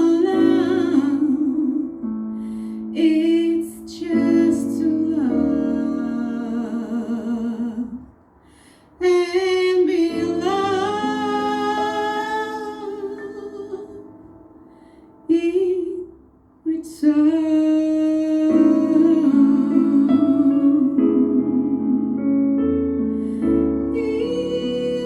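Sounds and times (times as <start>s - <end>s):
woman singing with vibrato: 0.0s - 2.0s, 2.9s - 8.1s, 9.0s - 14.2s, 15.2s - 22.2s, 23.8s - 25.0s.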